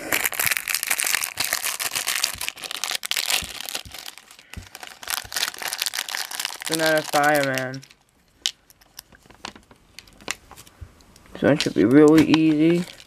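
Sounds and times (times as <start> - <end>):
plastic bag crinkling: 0.0 - 10.7, 11.3 - 13.0.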